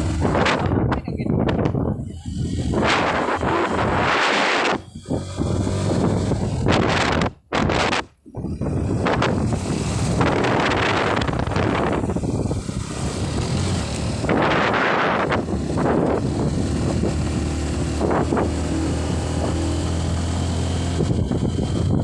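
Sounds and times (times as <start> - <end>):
vehicle engine humming: 0.0 - 22.0
wind on microphone: 0.0 - 22.0.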